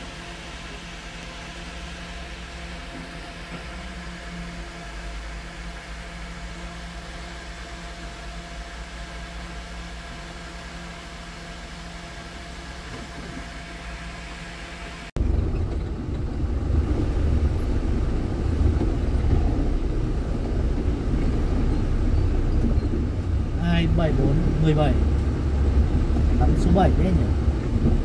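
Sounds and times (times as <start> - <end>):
deep engine rumble: 0.0 - 28.0
diesel truck engine running: 0.0 - 28.0.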